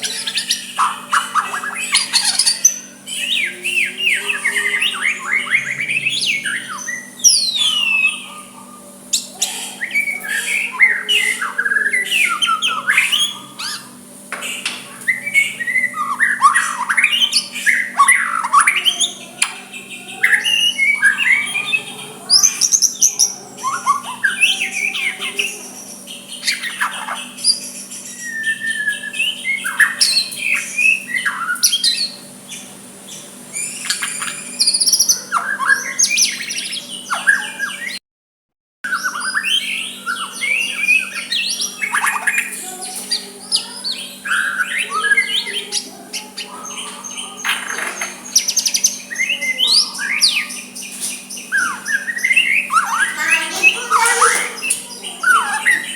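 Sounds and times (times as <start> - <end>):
bird singing whistles and chirps: 0.0 - 38.0, 38.9 - 55.9.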